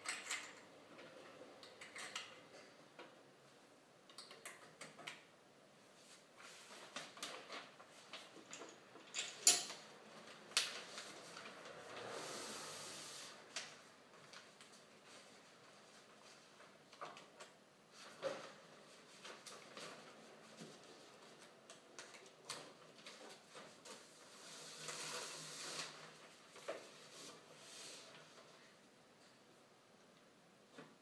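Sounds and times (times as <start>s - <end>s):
film rustling hiss: 5.2s - 31.0s.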